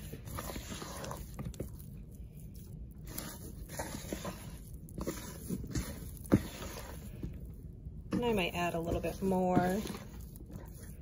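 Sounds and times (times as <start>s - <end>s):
hands squelching wet dough: 0.0s - 11.0s.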